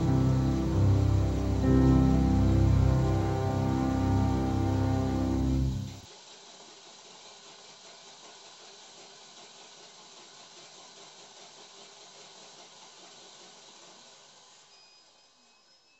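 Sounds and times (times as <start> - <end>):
faint steady hiss: 0.0 - 15.9.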